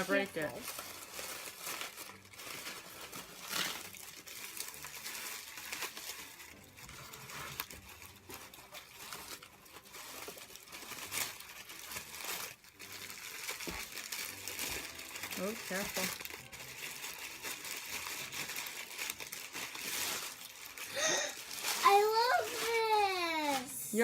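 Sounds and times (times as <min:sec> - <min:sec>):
packing wrap crinkling: 0:00.0 - 0:24.0.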